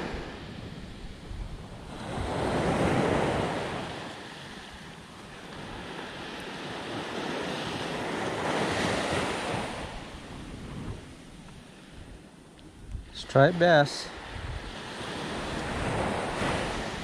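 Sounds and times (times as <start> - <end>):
surf washing up shore: 0.0 - 17.0
wind rumble on microphone: 0.0 - 17.0.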